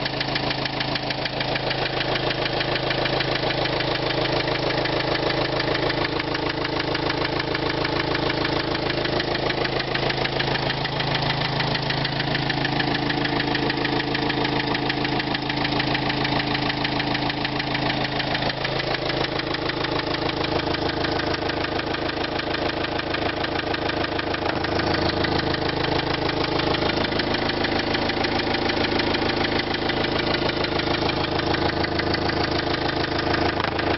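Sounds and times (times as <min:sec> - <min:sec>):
diesel engine idling with knock: 0:00.0 - 0:33.9.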